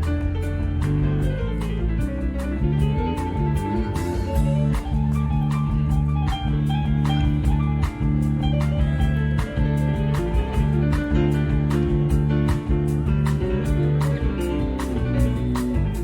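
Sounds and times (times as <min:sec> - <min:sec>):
bass guitar: 0:00.0 - 0:16.0
electric guitar: 0:00.0 - 0:16.0
steady drum beat: 0:00.0 - 0:16.0.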